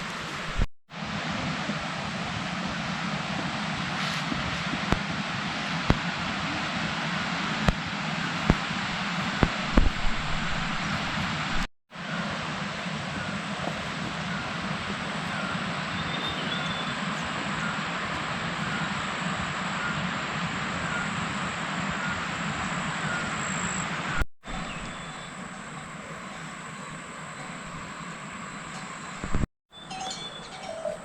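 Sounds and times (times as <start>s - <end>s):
heavy rain falling: 0.0s - 26.1s.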